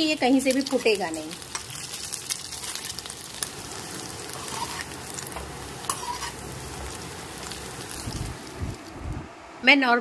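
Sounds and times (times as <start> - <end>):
meatballs sizzling in oil: 0.0 - 9.2.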